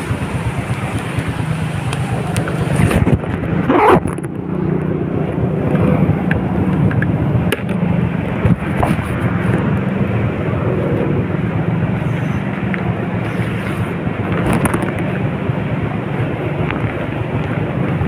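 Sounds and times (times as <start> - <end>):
heavy rain and wet-road noise: 0.0 - 18.0
vehicle engine humming: 0.0 - 18.0.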